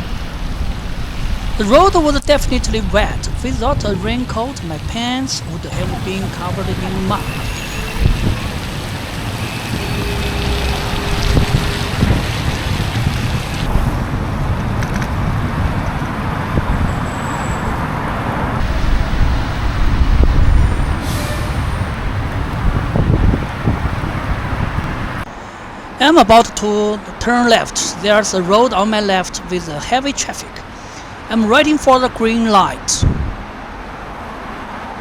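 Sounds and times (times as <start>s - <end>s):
vehicles passing on wet road: 0.0s - 26.3s, 27.0s - 35.0s
steady low traffic rumble: 0.0s - 35.0s.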